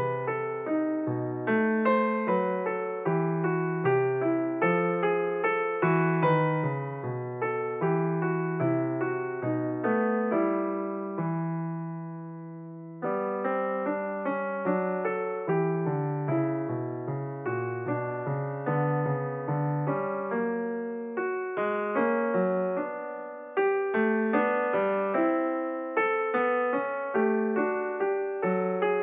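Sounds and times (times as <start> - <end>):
piano notes: 0.0 - 29.0.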